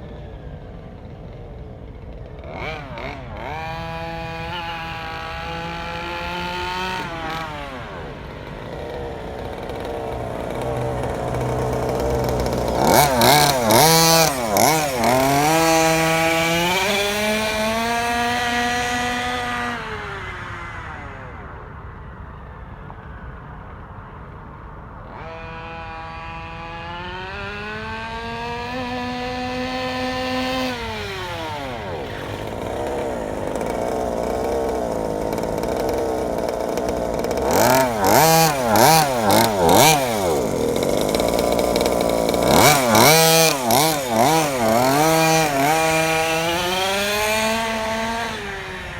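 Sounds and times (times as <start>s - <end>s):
rc car engine revving: 0.0s - 21.7s, 25.1s - 48.9s.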